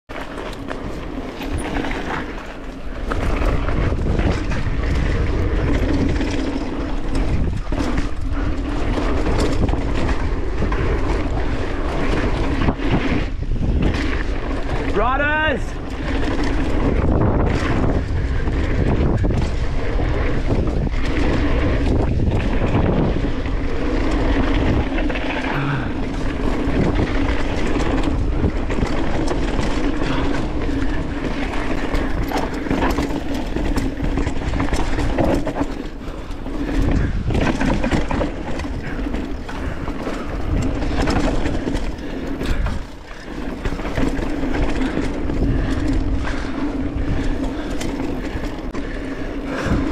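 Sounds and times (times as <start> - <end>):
bike chain knocks and rattles: 0.1 - 49.9
tyres rolling over dirt: 0.1 - 49.9
wind buffeting microphone: 0.4 - 49.9.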